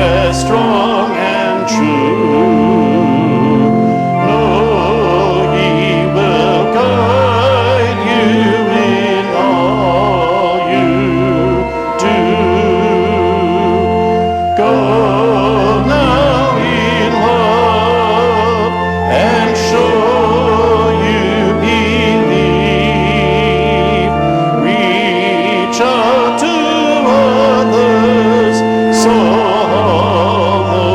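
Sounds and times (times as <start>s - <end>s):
organ chords: 0.0s - 30.9s
voices singing with vibrato: 0.0s - 30.9s.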